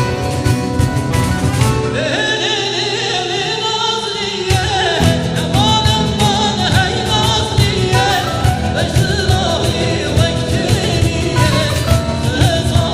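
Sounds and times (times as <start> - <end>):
instrumental accompaniment: 0.0 - 2.8, 4.5 - 12.9.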